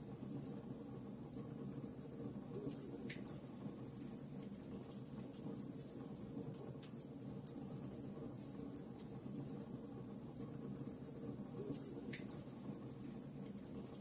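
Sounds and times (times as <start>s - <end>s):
wood fire crackling and popping: 1.3s - 14.0s.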